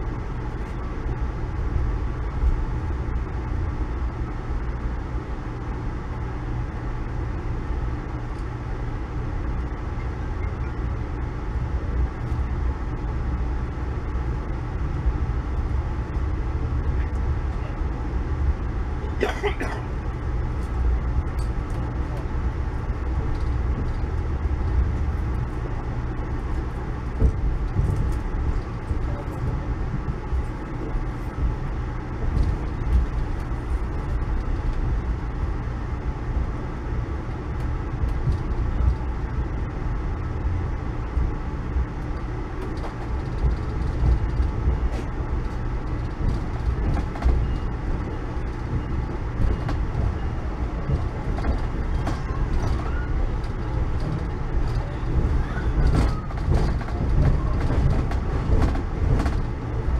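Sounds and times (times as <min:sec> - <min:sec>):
train car rumbling on rails: 0:00.0 - 0:59.9.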